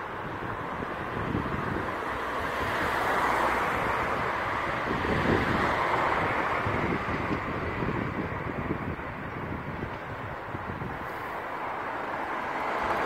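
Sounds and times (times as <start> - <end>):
car tyres rushing on road: 0.0 - 13.0
wind buffeting microphone: 0.0 - 13.0.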